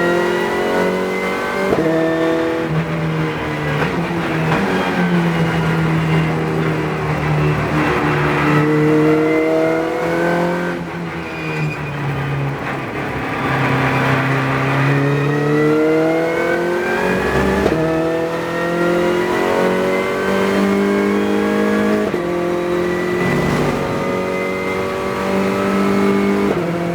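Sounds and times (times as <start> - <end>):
race car engine revving: 0.0 - 26.9.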